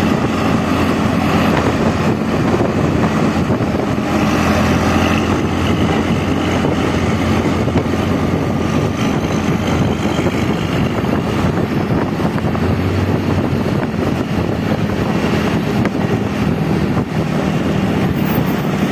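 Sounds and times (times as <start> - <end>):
bus diesel engine running: 0.0 - 18.9.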